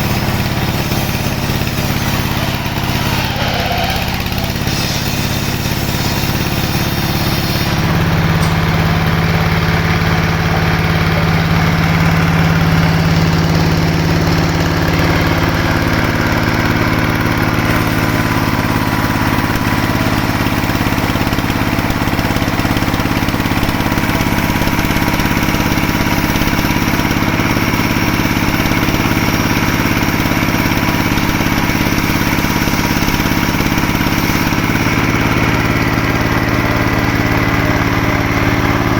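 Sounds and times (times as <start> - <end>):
sawmill machinery engine running: 0.0 - 38.9.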